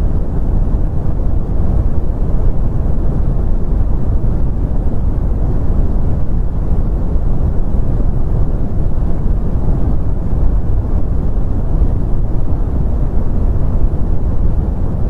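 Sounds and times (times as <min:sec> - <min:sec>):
deep rumbling brown noise: 0:00.0 - 0:15.0.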